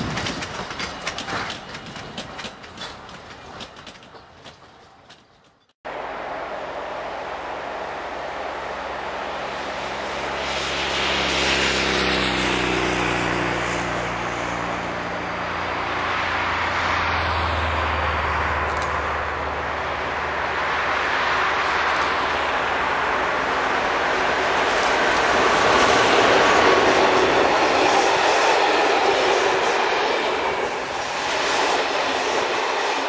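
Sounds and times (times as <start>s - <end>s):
passenger train approaching: 0.0s - 5.1s, 5.9s - 33.0s
cars passing: 5.9s - 33.0s.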